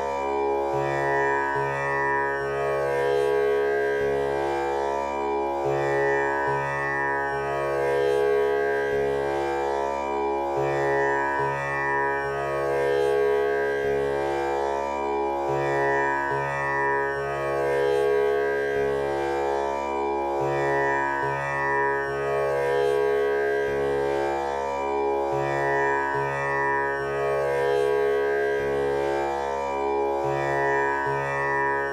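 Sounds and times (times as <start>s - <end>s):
tanpura drone: 0.0s - 31.9s
tanpura strings plucked: 0.0s - 31.9s.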